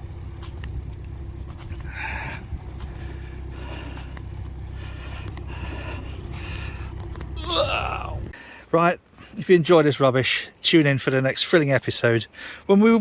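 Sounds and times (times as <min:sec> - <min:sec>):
faint constant hum: 0:00.0 - 0:11.0
low rumble of traffic: 0:00.0 - 0:13.0.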